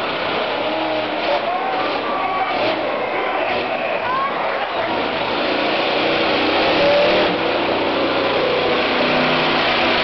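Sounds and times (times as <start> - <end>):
monster truck engine running: 0.0 - 10.0.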